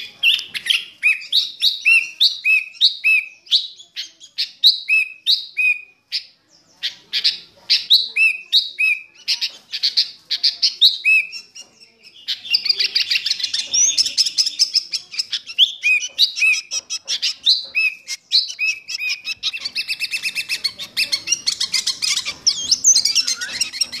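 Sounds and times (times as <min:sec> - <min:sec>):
bird song: 0:00.0 - 0:24.0.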